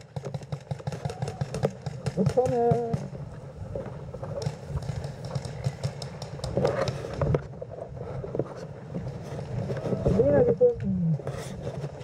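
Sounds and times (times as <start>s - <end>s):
camera handling rumble and rustle: 0.2s - 12.0s.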